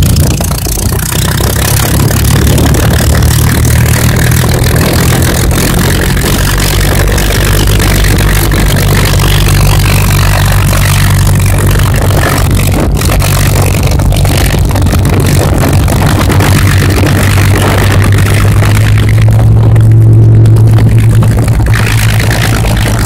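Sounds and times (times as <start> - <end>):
piston aircraft engine droning: 0.0 - 23.0.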